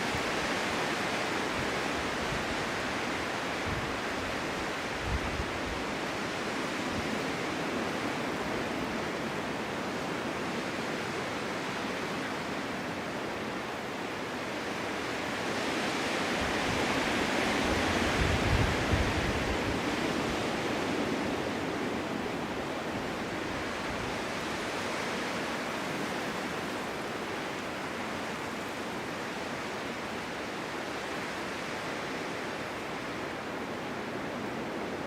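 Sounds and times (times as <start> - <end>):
wind blowing: 0.0 - 35.0.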